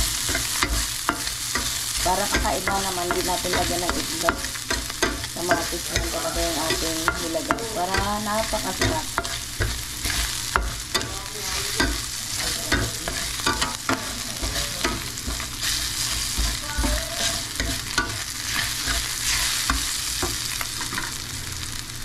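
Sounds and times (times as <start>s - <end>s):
spatula scraping a pan: 0.0s - 21.2s
garlic sizzling in oil: 0.0s - 22.0s.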